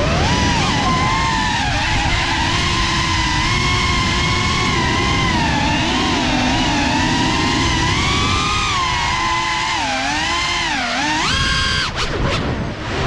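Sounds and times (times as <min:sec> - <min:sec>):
drone propellers whining: 0:00.0 - 0:13.0
wind noise: 0:00.0 - 0:13.0.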